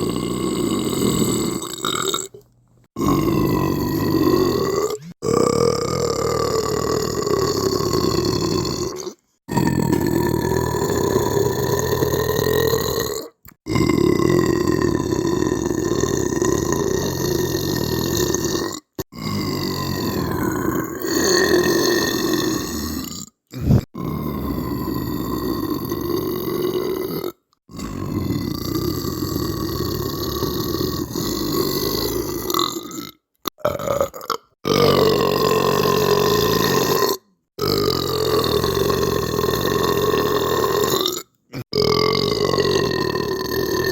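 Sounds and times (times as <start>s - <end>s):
person belching: 0.0s - 43.9s.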